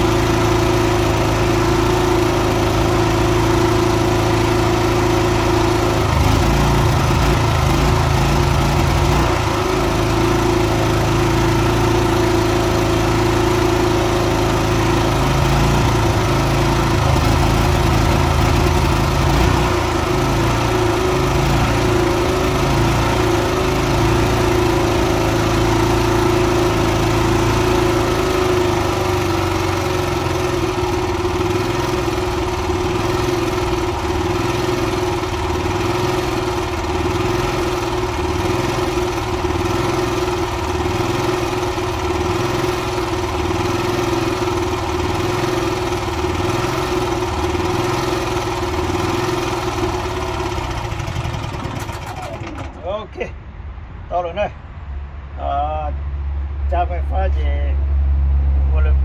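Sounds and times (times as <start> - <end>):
generator engine humming: 0.0 - 54.7.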